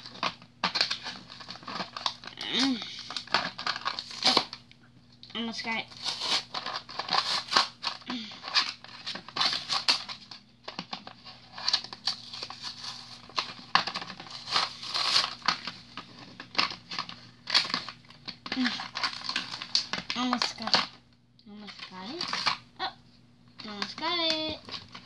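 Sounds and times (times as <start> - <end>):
wrapper tearing and crinkling: 0.0 - 4.6, 5.3 - 21.0, 21.6 - 22.6, 23.6 - 25.0.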